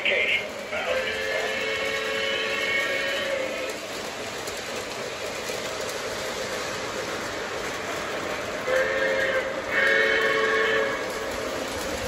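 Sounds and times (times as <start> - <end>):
model trains rolling on track: 0.0 - 12.0.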